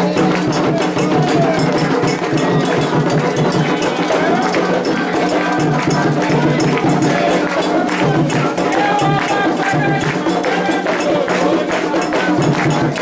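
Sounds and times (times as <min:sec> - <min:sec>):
drums and percussion: 0:00.0 - 0:13.0
voices chanting: 0:00.0 - 0:13.0.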